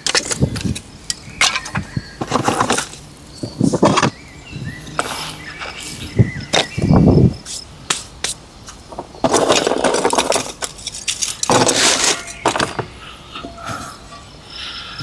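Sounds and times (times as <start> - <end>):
scraping or rustling: 0.0 - 4.2, 4.9 - 14.0.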